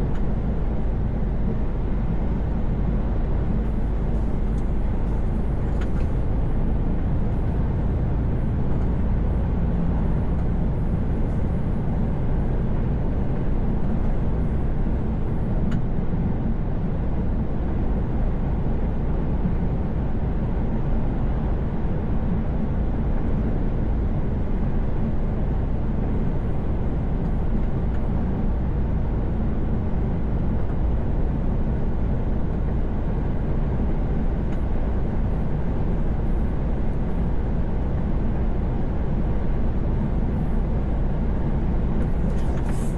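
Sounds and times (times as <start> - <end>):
road noise: 0.0 - 42.9
truck engine drone: 0.0 - 42.9.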